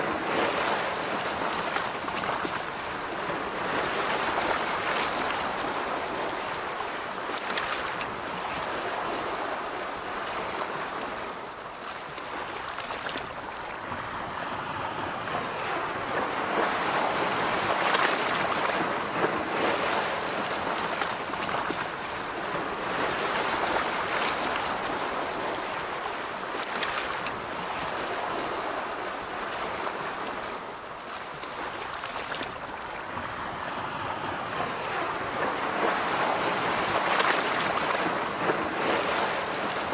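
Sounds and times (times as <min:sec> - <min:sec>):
ocean surf on a beach: 0:00.0 - 0:39.9.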